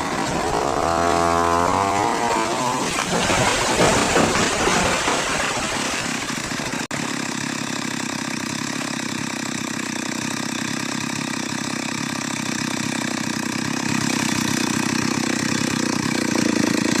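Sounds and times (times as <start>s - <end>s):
two-stroke chainsaw engine running: 0.0s - 17.0s.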